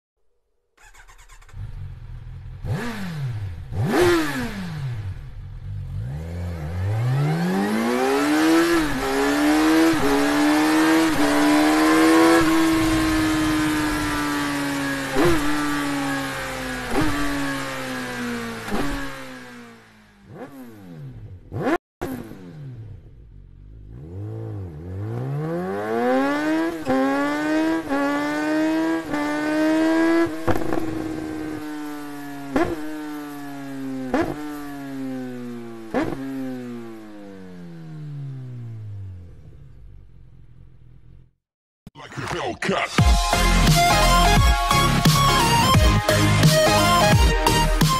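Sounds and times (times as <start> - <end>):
motorcycle engine revving: 0.8 - 41.4.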